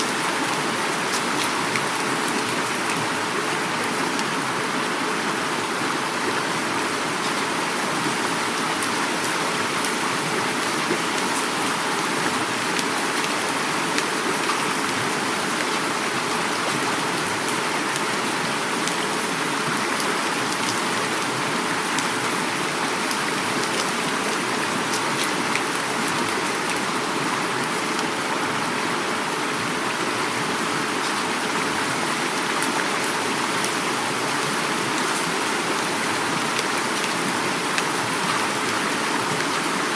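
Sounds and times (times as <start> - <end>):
flowing river rushing: 0.0 - 39.9
heavy rain falling: 0.0 - 39.9.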